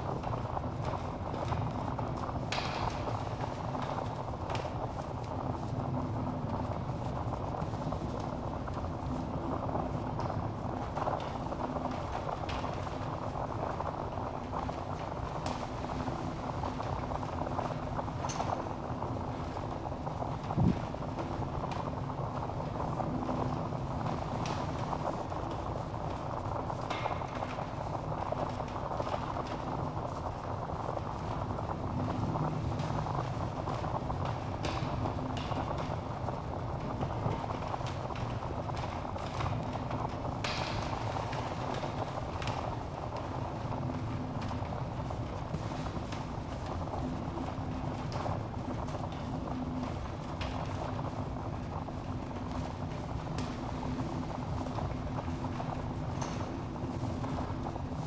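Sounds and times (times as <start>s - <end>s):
wood fire crackling in fireplace: 0.0s - 58.0s.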